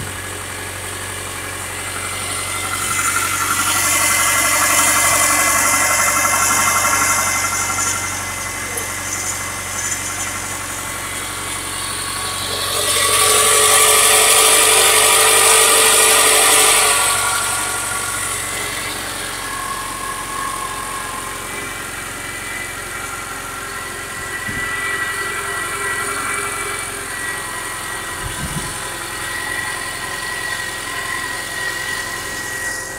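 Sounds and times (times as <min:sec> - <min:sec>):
car engine running with knock: 0:00.0 - 0:32.9.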